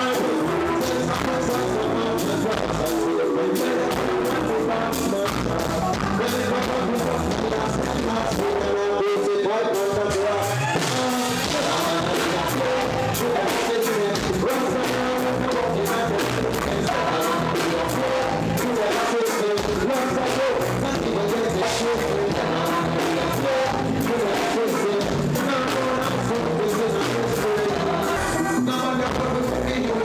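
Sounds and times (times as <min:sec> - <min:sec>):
man singing into a microphone: 0:00.0 - 0:30.0
reggae band playing: 0:00.0 - 0:30.0.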